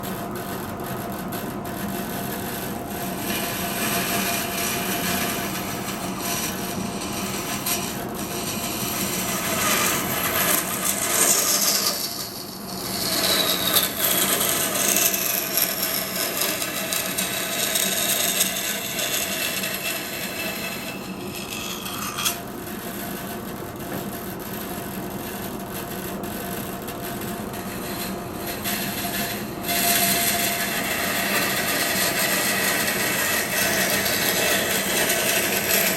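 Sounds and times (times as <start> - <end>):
band saw cutting wood: 1.8 - 22.5, 26.9 - 35.9.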